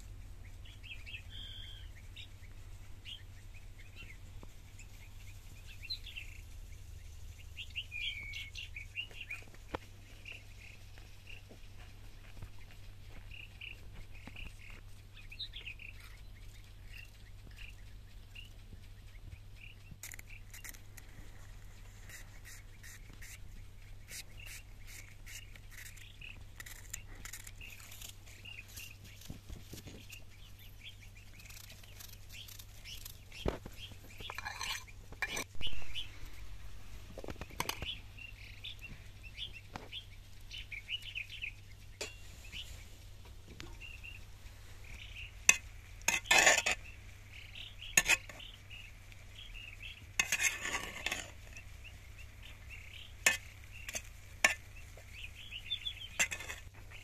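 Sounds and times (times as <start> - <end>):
small birds chirping: 0.0 - 57.0
steady low hum: 0.0 - 57.0.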